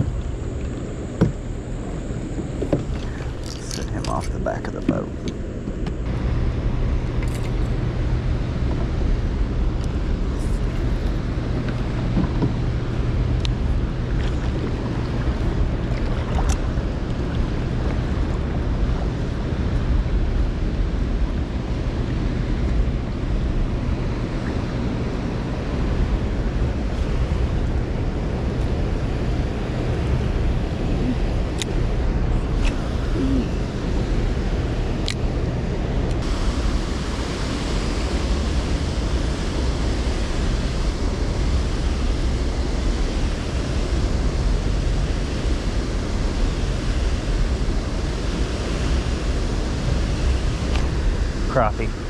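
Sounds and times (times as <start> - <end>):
low hum: 0.0 - 52.0
water noise: 0.0 - 52.0
wind rumbling: 0.0 - 52.0.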